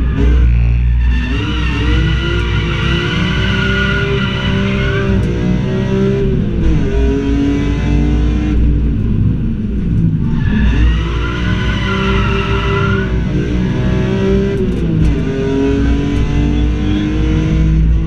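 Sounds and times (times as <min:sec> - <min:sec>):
race car engine revving: 0:00.0 - 0:09.1, 0:09.8 - 0:18.0.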